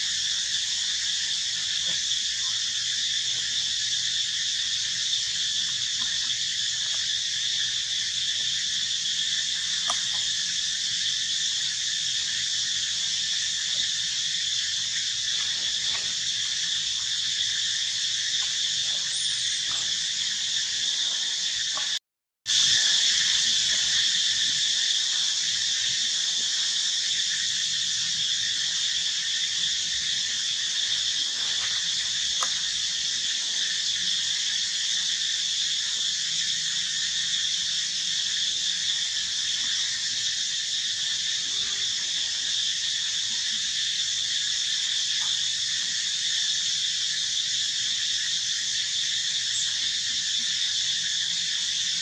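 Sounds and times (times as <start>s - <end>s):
insect chorus: 0.0s - 52.0s.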